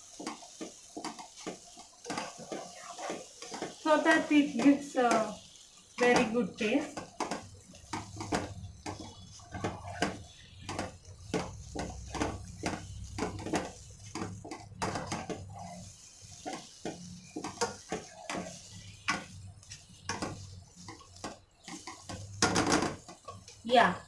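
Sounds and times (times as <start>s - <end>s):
spatula scraping and knocking pan: 0.0s - 24.0s.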